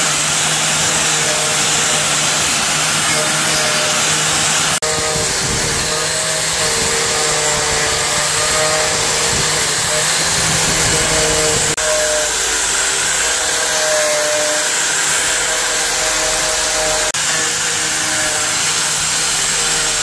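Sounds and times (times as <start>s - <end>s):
power tool running: 0.0s - 20.0s.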